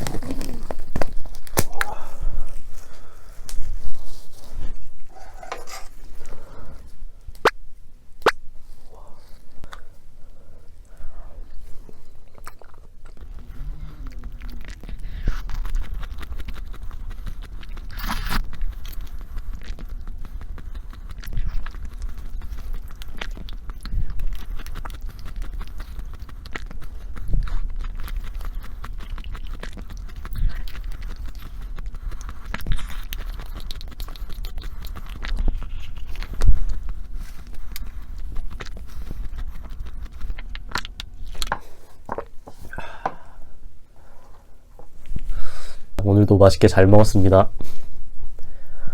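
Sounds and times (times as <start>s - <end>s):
chewing and biting food: 0.0s - 43.5s.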